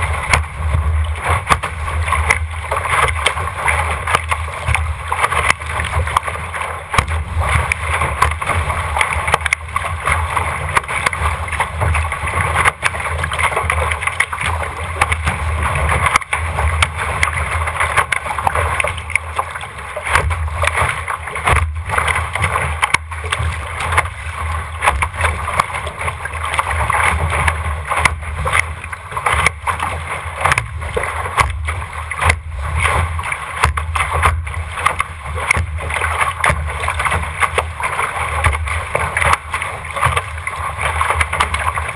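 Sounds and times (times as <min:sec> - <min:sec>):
sharp water slaps: 0:00.0 - 0:41.9
water rushing along hull: 0:00.0 - 0:41.9.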